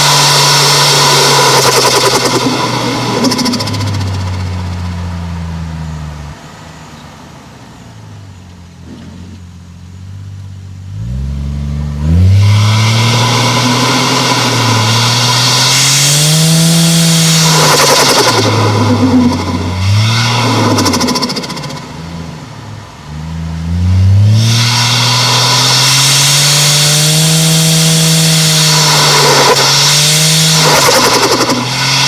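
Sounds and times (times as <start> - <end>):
turbo hissing rush: 0.0 - 5.9, 10.9 - 32.0
turbocharged car engine revving: 0.0 - 32.0.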